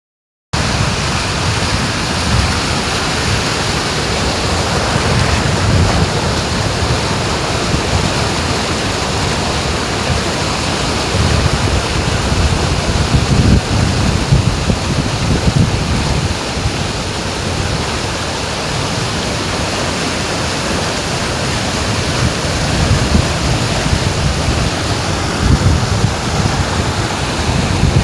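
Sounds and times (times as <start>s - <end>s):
waterfall roaring: 0.6s - 28.0s
wind buffeting microphone: 0.7s - 20.0s, 20.6s - 28.0s.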